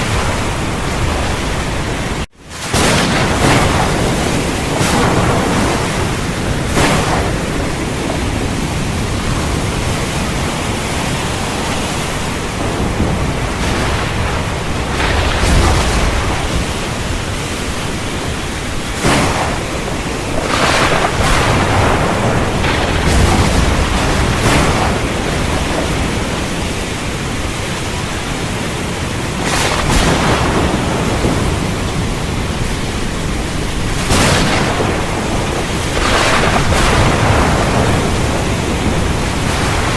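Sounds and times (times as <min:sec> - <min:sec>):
sharp thunder cracks: 0:00.0 - 0:28.5, 0:29.1 - 0:39.9
heavy rain falling: 0:00.0 - 0:39.9
rolling thunder rumbles: 0:00.0 - 0:39.9.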